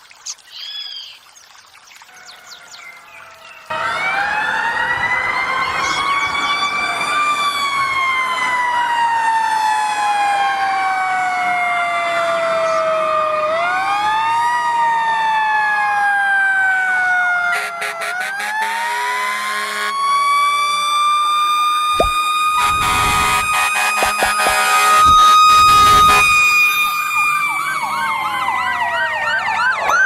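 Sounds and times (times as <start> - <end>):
wailing siren: 2.4 - 30.0.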